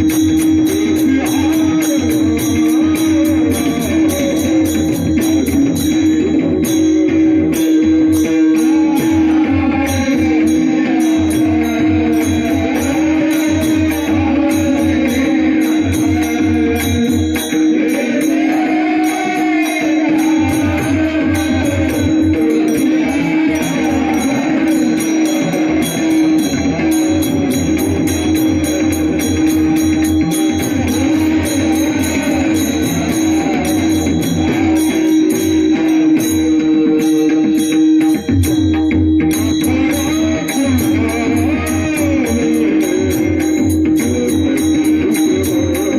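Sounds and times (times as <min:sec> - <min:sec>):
man singing: 0:00.0 - 0:45.9
small hand cymbals: 0:00.0 - 0:45.9.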